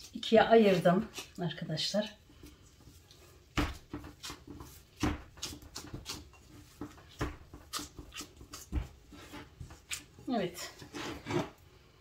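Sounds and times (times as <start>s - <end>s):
hands patting dough in a bowl: 0.0s - 10.7s.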